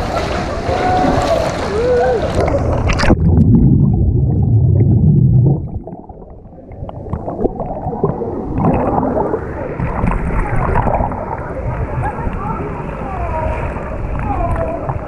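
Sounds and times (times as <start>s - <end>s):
muffled underwater churning: 0.0s - 15.0s
surging water rushing: 0.0s - 15.0s.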